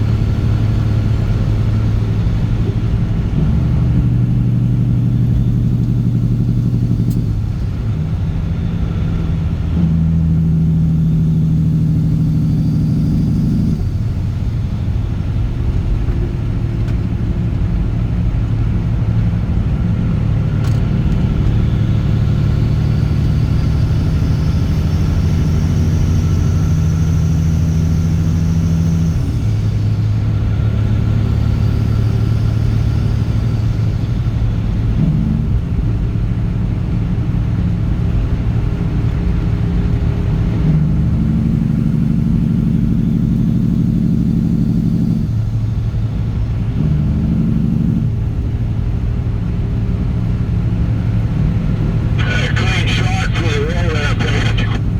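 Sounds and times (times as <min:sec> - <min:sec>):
diesel truck engine droning: 0:00.0 - 0:54.9.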